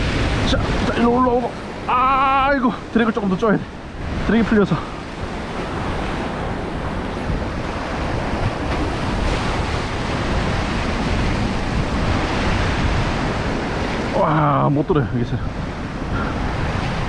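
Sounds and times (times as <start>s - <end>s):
surf breaking against rocks: 0.0s - 17.0s
wind on microphone: 0.0s - 17.0s.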